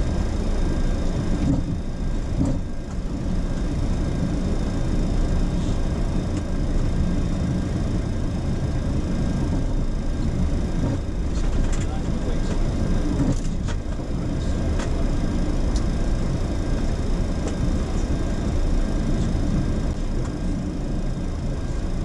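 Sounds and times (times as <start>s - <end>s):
aircraft engines idling while taxiing: 0.0s - 22.0s.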